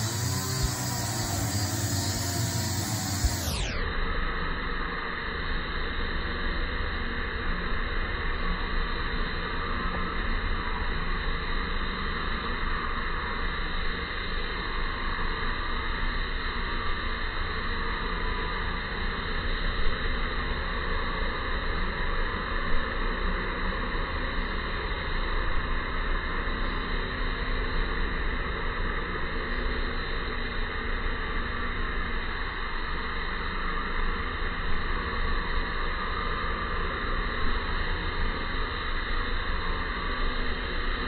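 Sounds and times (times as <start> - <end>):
outdoor background hiss: 0.0 - 41.0.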